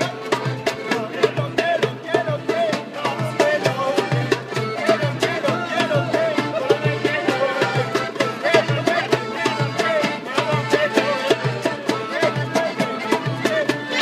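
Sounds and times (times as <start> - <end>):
accordion bass: 0.0 - 14.0.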